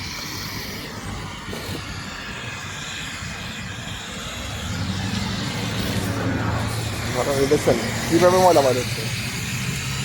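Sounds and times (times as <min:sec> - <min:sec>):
water spray hissing: 0:00.0 - 0:10.0.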